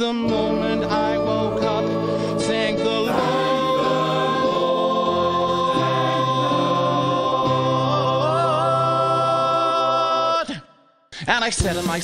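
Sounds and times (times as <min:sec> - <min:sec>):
choir holding sung chord: 0:00.2 - 0:10.4.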